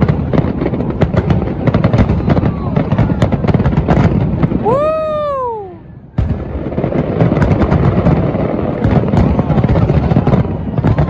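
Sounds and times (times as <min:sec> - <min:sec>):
firework whoop: 0:00.0 - 0:11.0
fireworks bangs and crackles: 0:00.0 - 0:11.0.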